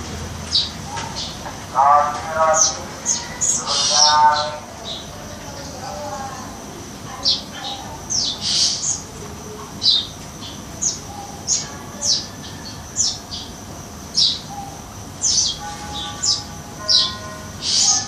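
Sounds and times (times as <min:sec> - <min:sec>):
sparrow harsh chirps: 0:00.5 - 0:06.2, 0:07.1 - 0:09.1, 0:09.8 - 0:18.0.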